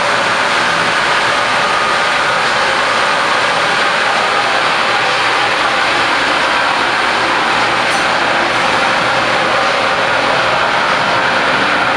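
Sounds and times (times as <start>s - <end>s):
cooling blowers rushing: 0.0s - 11.9s.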